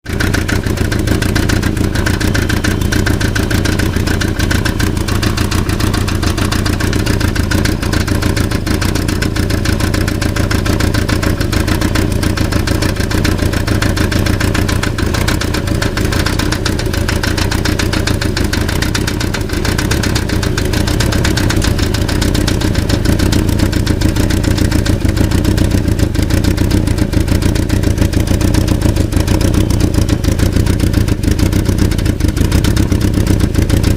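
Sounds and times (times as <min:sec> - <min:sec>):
car engine running: 0:00.0 - 0:33.9
fast metallic rattle: 0:00.1 - 0:33.9.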